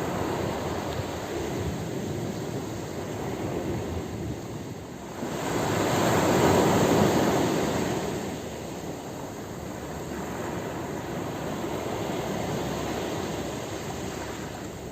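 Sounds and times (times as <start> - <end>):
ocean surf on beach: 0.0 - 14.9.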